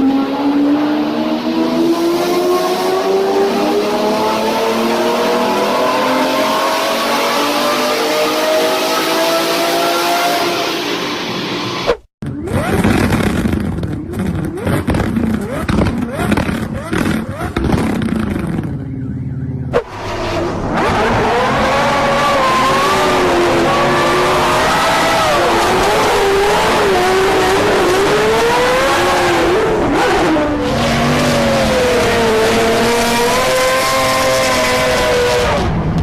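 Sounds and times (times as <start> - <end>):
car engine under throttle: 0.0 - 36.0.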